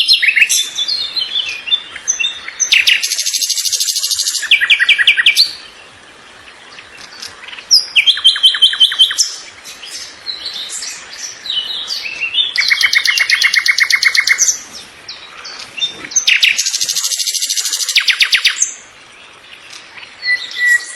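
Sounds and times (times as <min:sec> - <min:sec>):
songbird trilled phrases: 0:00.0 - 0:20.9.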